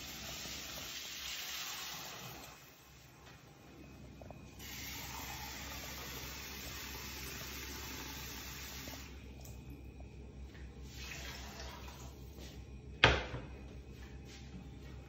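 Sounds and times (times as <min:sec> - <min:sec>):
water running: 0:00.0 - 0:12.6.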